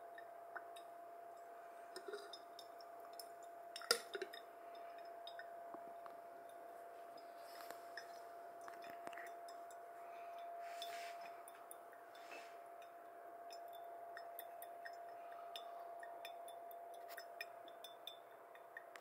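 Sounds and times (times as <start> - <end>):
coffee dripping: 0.0 - 19.0
faint hum: 0.0 - 19.0.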